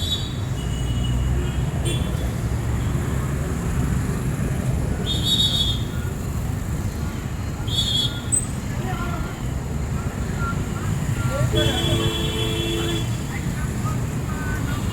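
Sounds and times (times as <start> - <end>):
traffic engine rumble: 0.0 - 14.9.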